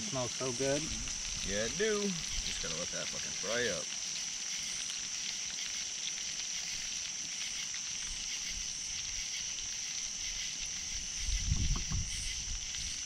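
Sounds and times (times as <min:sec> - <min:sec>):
fish sizzling in oil: 0:00.0 - 0:13.0
night insects chorus: 0:00.0 - 0:13.0.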